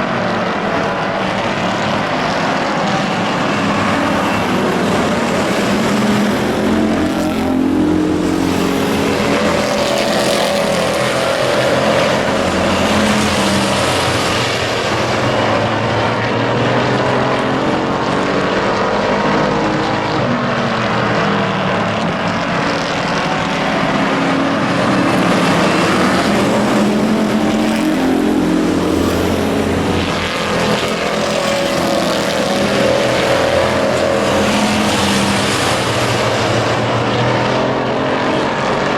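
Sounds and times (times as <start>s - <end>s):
race truck engines: 0.0s - 38.9s.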